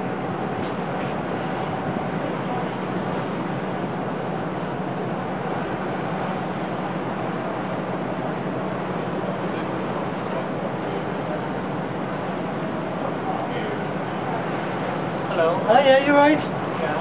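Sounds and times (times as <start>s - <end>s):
boat engine droning: 0.0s - 17.0s
water rushing: 0.0s - 17.0s.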